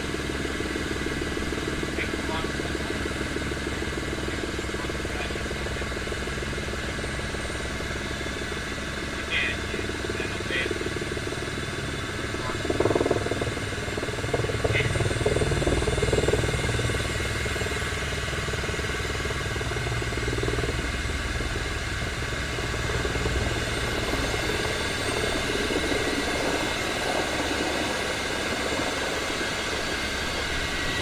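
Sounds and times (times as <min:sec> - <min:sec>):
helicopter turbine running: 0:00.0 - 0:31.0
rotor blades beating: 0:00.0 - 0:31.0.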